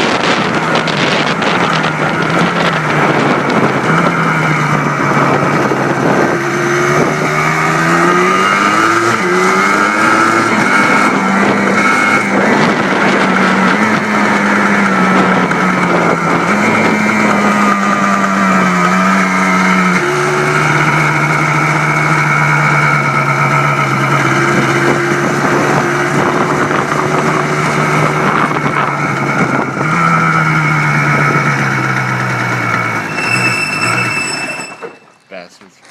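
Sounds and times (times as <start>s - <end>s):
two-stroke engine running: 0.0s - 35.0s.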